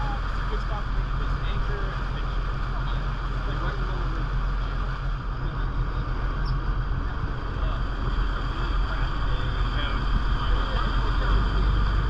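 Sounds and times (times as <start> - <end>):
boat engine droning: 0.0 - 12.0
water and wind hiss: 0.0 - 12.0.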